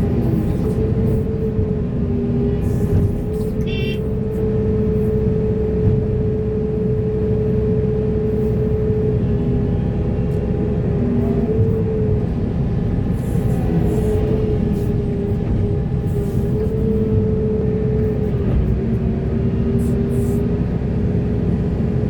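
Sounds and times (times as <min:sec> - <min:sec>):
diesel excavator engine running: 0:00.0 - 0:22.0.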